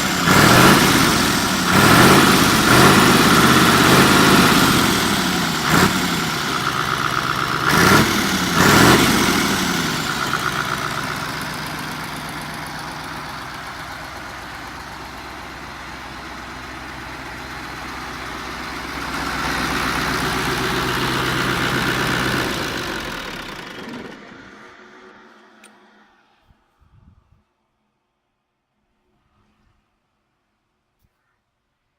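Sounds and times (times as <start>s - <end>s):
diesel engine revving: 0.0s - 26.1s.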